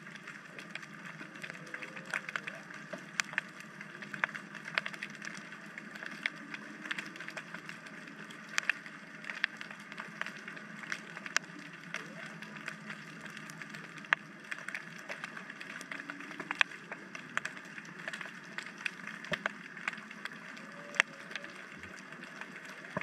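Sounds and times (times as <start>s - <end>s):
sharp clicks and crackles: 0.0s - 23.0s.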